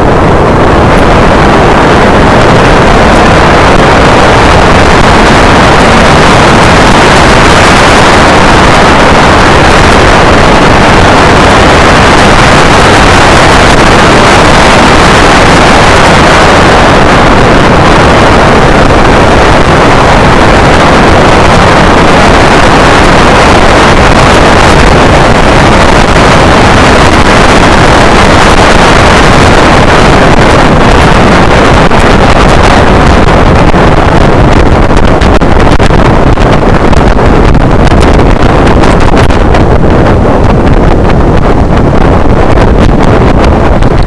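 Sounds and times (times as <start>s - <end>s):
road noise: 0.0s - 44.0s
wind buffeting microphone: 0.0s - 44.0s.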